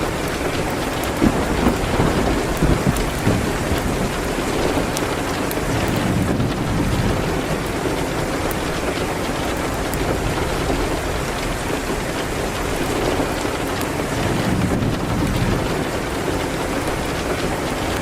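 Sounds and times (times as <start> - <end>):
rain on a window: 0.0 - 18.0
wood fire crackling: 0.0 - 18.0.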